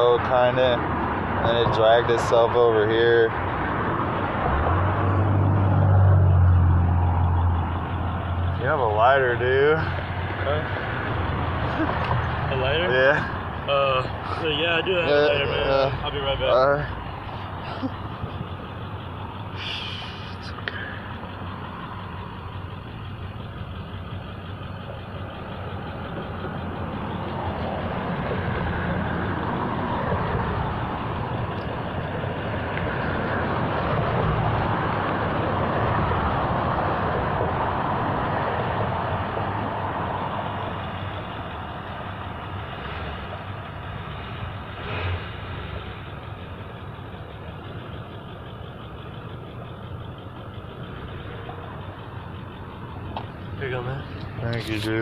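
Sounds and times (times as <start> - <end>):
motor vehicle passing: 0.0 - 55.0.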